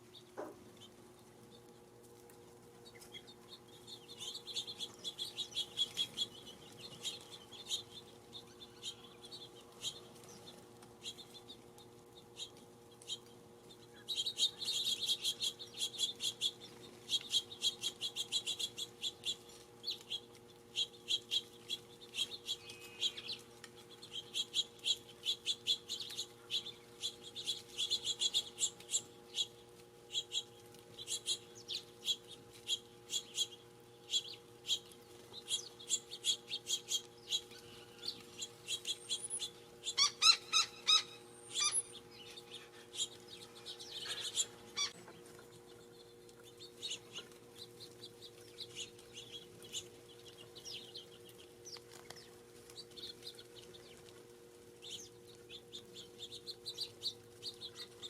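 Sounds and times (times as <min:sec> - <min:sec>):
small songbirds chirping: 0:02.6 - 0:58.0.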